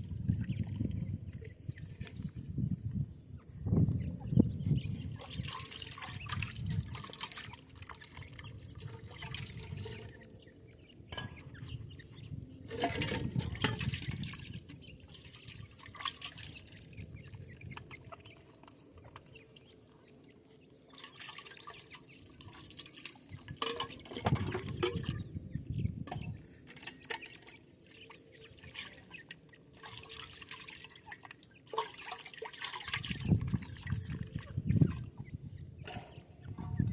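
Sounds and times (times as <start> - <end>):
chicks drinking water: 0.0 - 36.9.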